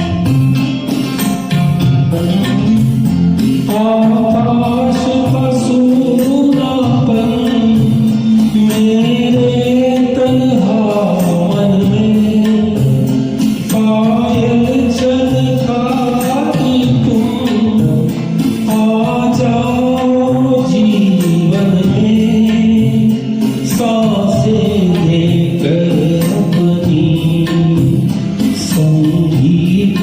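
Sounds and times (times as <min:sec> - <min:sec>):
musical accompaniment: 0:00.0 - 0:30.0
person singing: 0:01.4 - 0:30.0.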